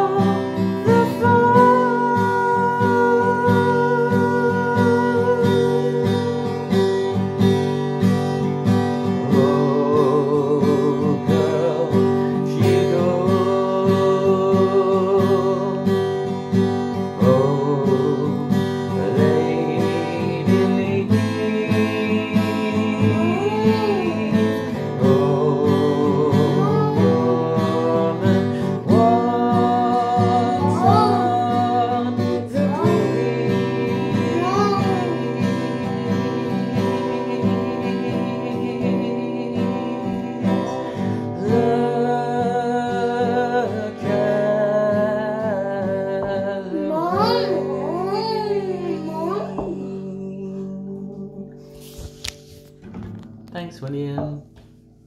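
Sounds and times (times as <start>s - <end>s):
man singing: 0.0s - 8.0s, 8.9s - 52.0s
acoustic guitar strumming: 0.0s - 55.0s.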